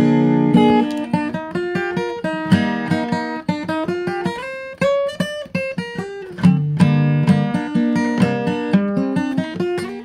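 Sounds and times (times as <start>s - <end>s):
acoustic guitar plucking and strumming: 0.0s - 10.0s.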